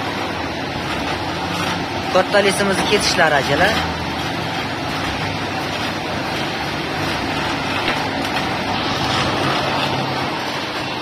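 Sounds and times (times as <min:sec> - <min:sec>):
rotary cutter slitting sheet metal: 0:00.0 - 0:11.0.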